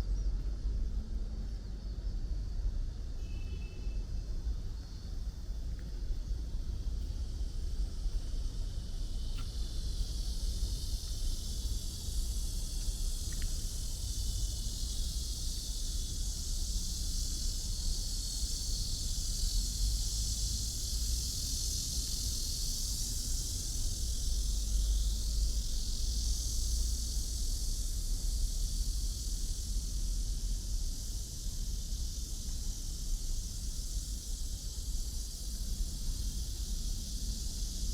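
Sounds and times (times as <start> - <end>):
high-pitched hiss: 0.0 - 37.9.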